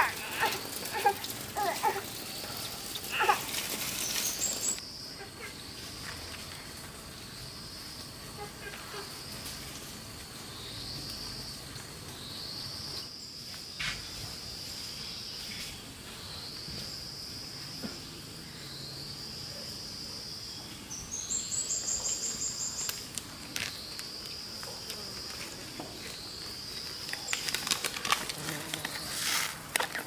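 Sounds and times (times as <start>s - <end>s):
higher pulsed insect call: 0.0s - 30.0s
insects buzzing: 0.0s - 30.0s.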